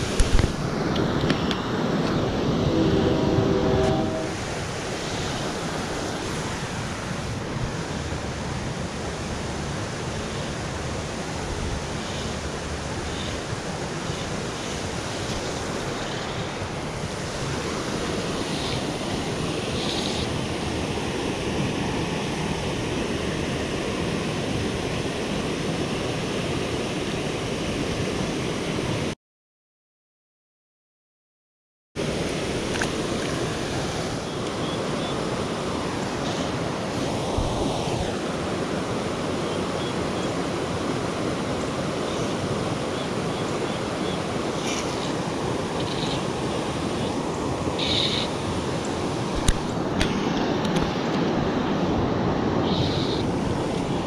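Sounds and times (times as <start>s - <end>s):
water rushing over rocks: 0.0s - 29.1s, 32.0s - 54.0s
wind on microphone: 0.0s - 29.1s, 32.0s - 54.0s.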